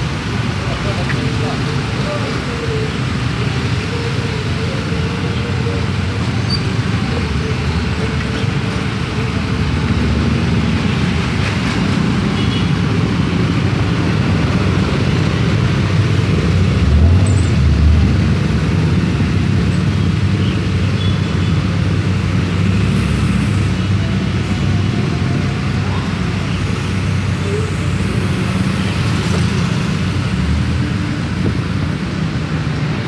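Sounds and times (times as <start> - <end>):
scooters and cars passing: 0.0 - 33.0.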